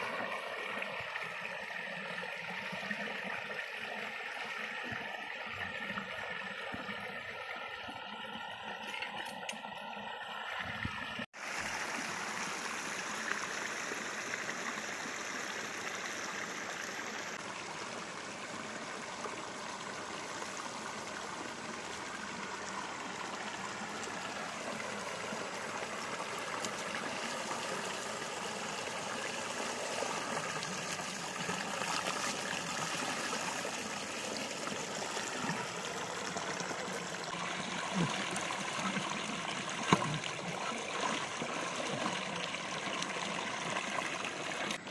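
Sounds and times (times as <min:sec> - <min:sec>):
water rushing in a stream: 0:00.0 - 0:44.9.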